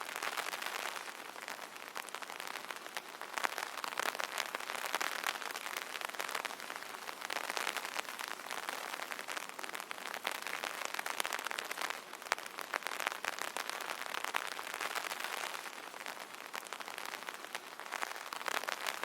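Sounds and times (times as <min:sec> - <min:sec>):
rain pattering on umbrella: 0:00.0 - 0:19.0.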